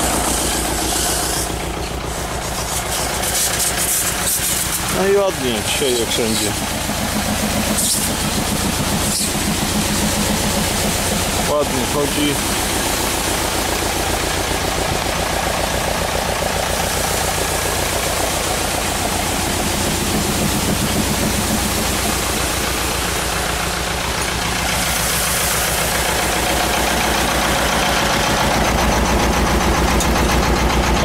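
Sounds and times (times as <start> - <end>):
tractor engine running: 0.0 - 31.0
water spraying from nozzles: 0.0 - 31.0.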